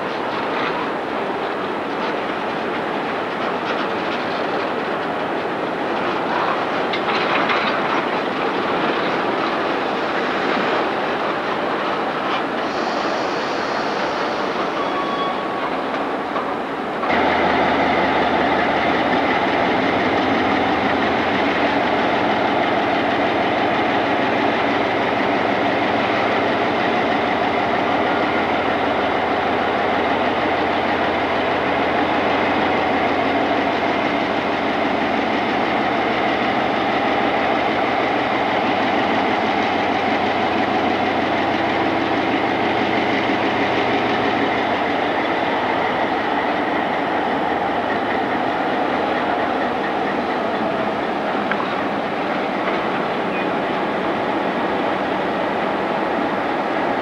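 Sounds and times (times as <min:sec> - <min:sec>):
diesel locomotive engine: 0:00.0 - 0:57.0.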